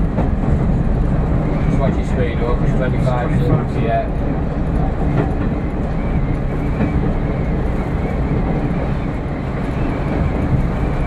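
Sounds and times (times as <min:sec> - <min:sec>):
diesel train engine rumbling: 0:00.0 - 0:11.0.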